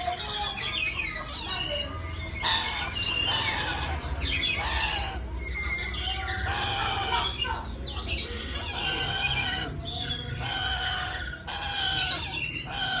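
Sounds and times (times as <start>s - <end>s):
parrot squawking: 1.1s - 13.0s.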